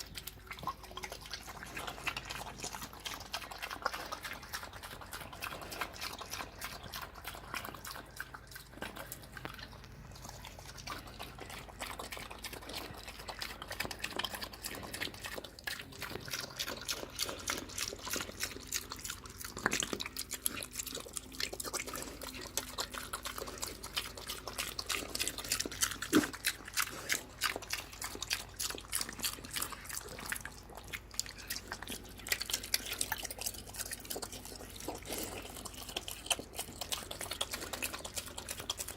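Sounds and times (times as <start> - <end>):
pig chomping and slurping: 0.0 - 38.9.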